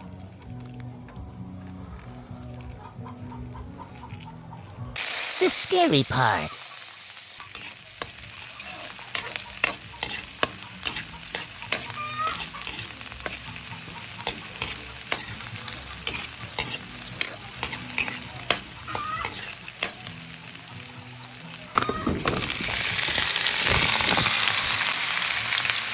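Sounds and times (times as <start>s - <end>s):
oil sizzling and popping: 0.0s - 25.9s.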